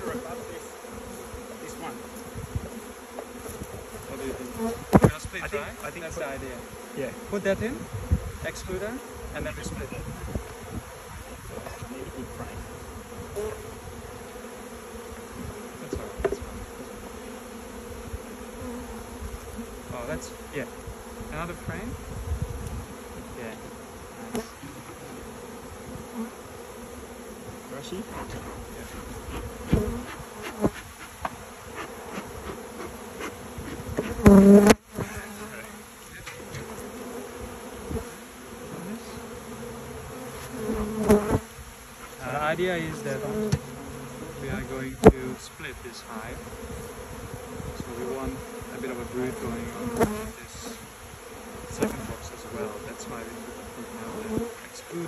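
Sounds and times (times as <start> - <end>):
honeybees buzzing: 0.0 - 55.0.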